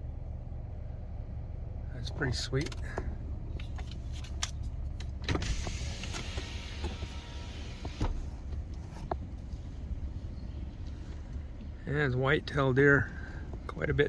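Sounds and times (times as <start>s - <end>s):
car interior rumble: 0.0s - 14.0s.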